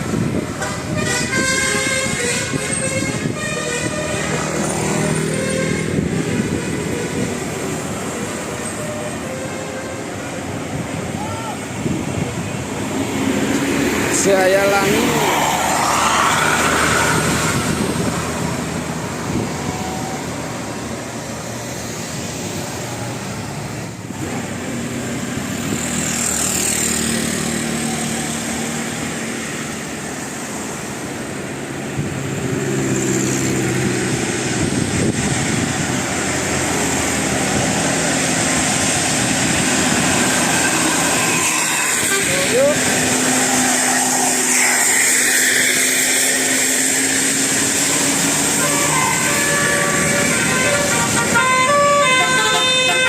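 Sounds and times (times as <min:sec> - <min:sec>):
bus engine running: 0:00.0 - 0:53.0
traffic noise: 0:00.0 - 0:53.0.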